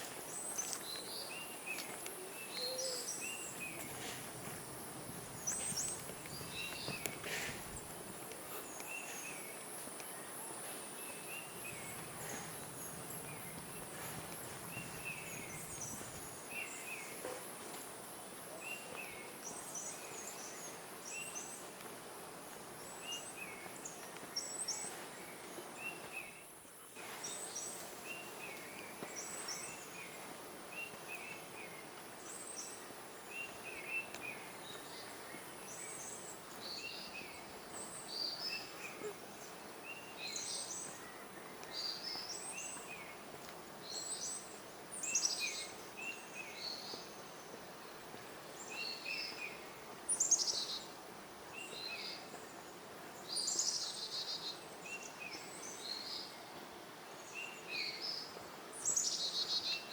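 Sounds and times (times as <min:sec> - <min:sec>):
background hiss: 0:00.0 - 0:59.9
tropical birds chirping: 0:00.0 - 0:59.9.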